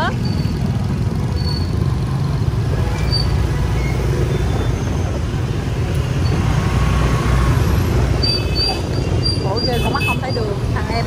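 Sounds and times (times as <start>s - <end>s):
motorbike traffic rumble: 0.0s - 11.0s.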